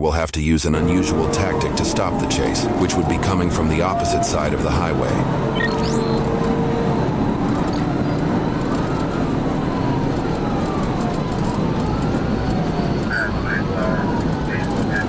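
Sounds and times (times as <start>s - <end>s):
road and engine noise: 0.7s - 15.0s
police siren wailing: 1.0s - 15.0s.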